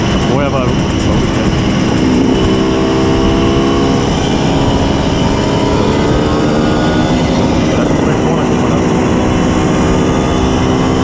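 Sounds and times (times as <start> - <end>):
moped two-stroke engine running: 0.0 - 11.0.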